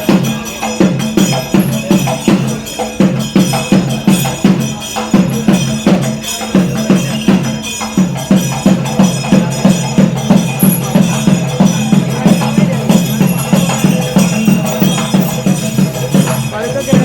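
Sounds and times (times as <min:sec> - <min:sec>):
drum strikes: 0:00.0 - 0:17.0
metallic jingling: 0:00.0 - 0:17.0.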